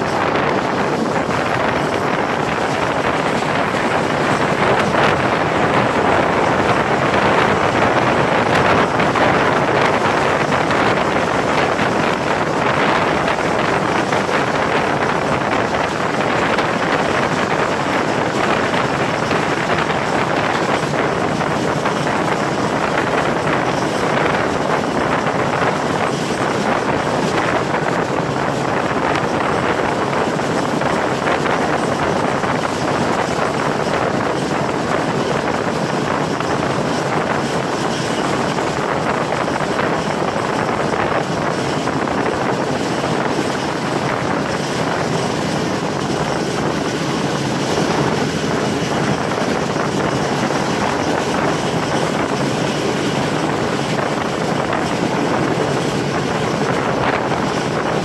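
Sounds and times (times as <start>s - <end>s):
train running on track: 0.0s - 58.0s
wind buffeting microphone: 0.0s - 58.0s.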